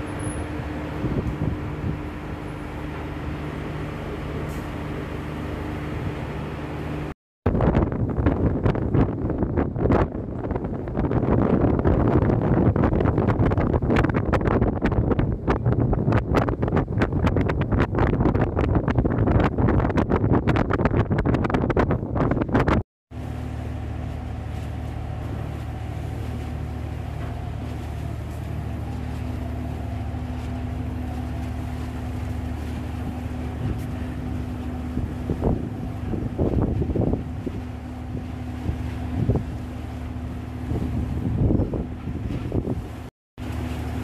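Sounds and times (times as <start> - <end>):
wind buffeting microphone: 0.0 - 2.4, 7.5 - 22.8, 23.6 - 44.0
ship engine droning: 0.0 - 17.9, 23.1 - 44.0.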